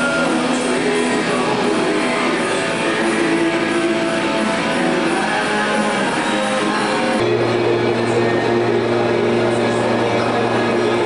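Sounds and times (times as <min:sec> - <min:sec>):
guitar rock music: 0:00.0 - 0:11.0.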